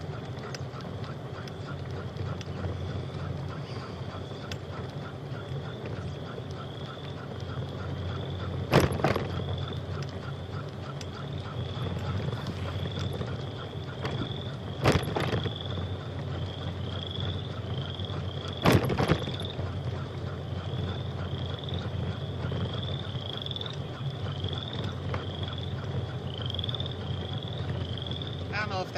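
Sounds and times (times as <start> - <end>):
steady low rumble: 0.0 - 28.9.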